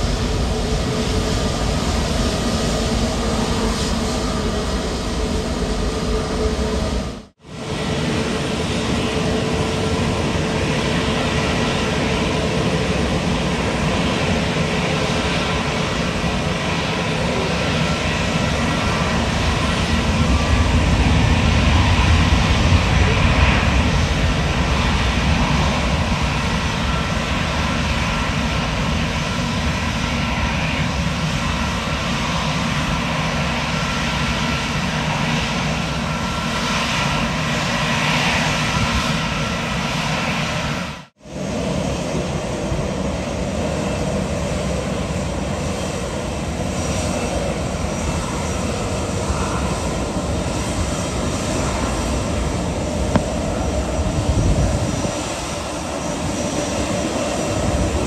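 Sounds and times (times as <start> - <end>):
airliner engines running: 0.0 - 58.0.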